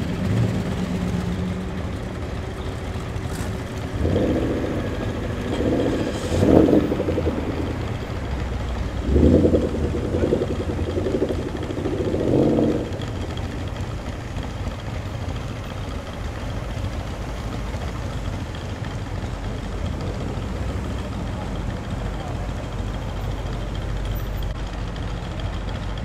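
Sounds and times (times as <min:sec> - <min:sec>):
cars driving slowly past: 0:00.0 - 0:26.0.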